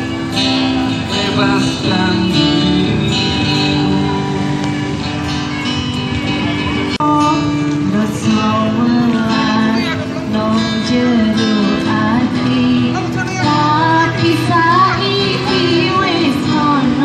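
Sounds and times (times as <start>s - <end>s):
person singing: 0.0s - 5.0s, 6.5s - 17.0s
acoustic guitar strumming: 0.0s - 17.0s.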